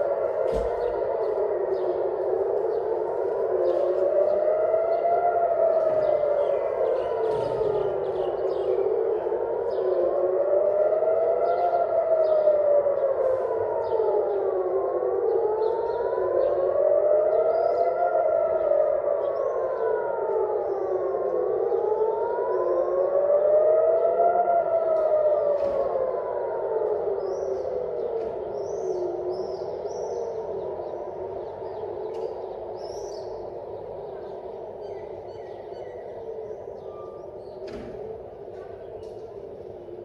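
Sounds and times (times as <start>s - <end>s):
air-raid sirens wailing: 0.0s - 40.0s.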